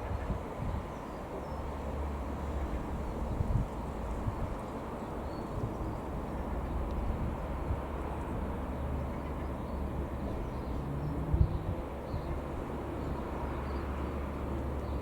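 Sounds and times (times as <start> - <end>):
light aircraft droning: 0.0 - 15.0
wind rumble on microphone: 0.0 - 15.0.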